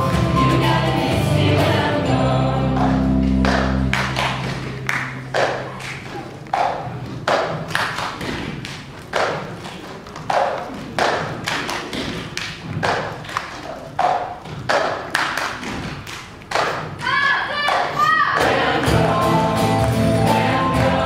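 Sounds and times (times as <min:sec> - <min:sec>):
hands clapping: 0:02.7 - 0:20.0.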